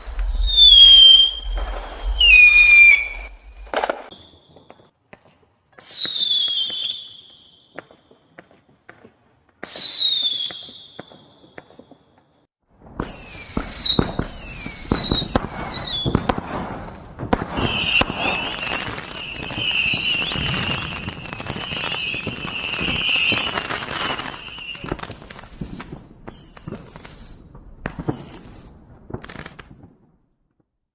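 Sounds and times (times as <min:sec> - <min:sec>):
whistling fireworks: 0:00.0 - 0:05.0, 0:05.8 - 0:08.6, 0:09.6 - 0:30.1
fireworks crackling and popping: 0:00.0 - 0:30.2.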